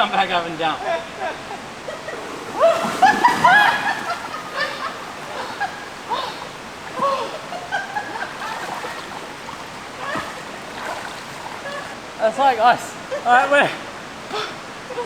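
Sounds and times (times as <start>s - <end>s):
river water running: 0.0s - 15.0s
splashing of wading: 0.8s - 13.2s.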